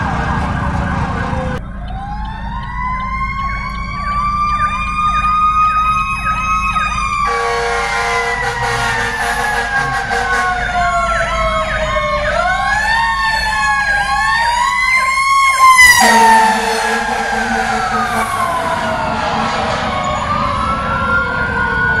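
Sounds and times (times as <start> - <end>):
fast siren yelp: 0.0 - 22.0
fire engine siren wail: 0.0 - 22.0.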